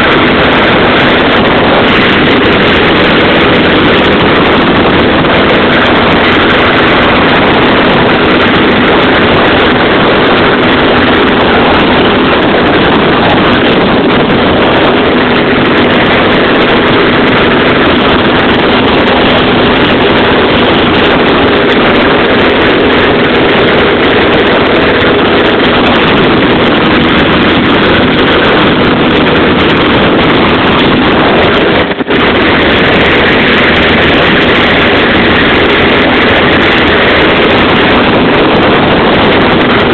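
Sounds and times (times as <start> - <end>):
propeller engine running: 0.0 - 39.9
wind rush over cabin: 0.0 - 39.9.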